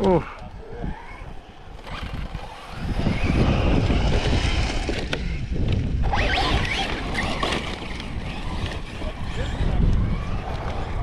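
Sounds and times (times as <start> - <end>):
electric motor whining: 0.0 - 11.0
wind rumbling on microphone: 0.0 - 11.0.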